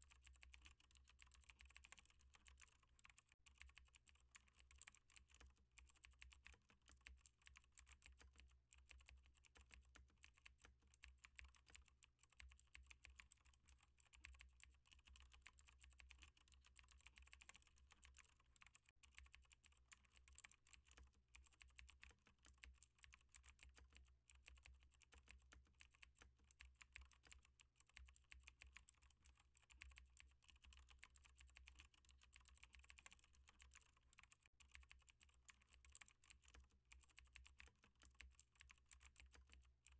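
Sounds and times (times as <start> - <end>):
typing on keyboard: 0.0 - 39.9.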